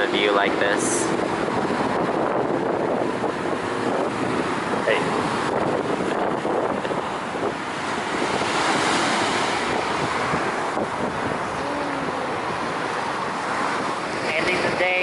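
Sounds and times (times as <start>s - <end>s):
ocean surf washing in: 0.0s - 15.0s
wind buffeting microphone: 0.0s - 15.0s.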